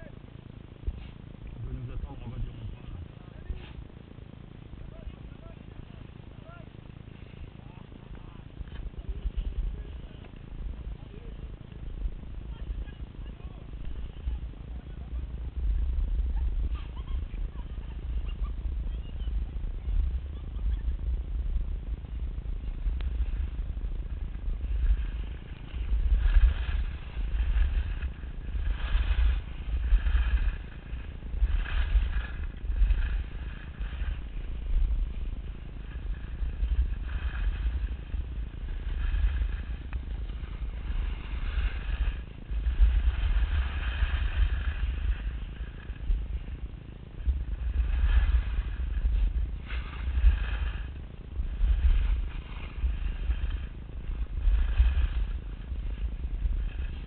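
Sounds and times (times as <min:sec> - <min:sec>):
wind buffeting microphone: 0:00.0 - 0:57.0
edges carving over snow: 0:00.8 - 0:04.1, 0:04.8 - 0:57.0.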